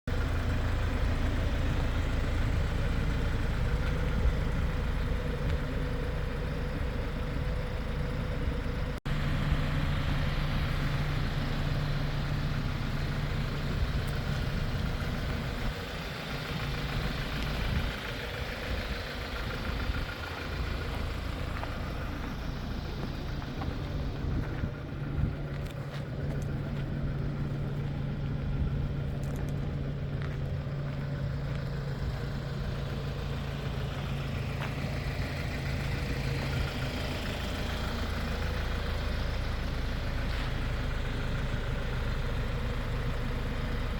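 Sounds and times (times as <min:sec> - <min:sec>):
diesel truck engine idling: 0:00.0 - 0:43.9.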